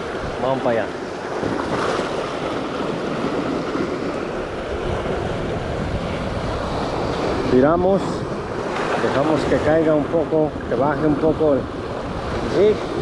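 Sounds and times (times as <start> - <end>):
surf washing against rocks: 0.0 - 13.0
wind on microphone: 0.0 - 13.0.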